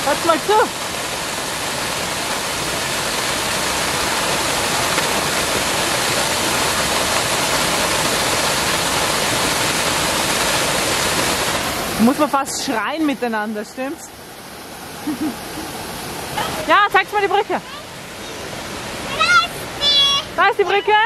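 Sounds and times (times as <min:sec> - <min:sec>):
waterfall crashing over rocks: 0:00.0 - 0:21.0.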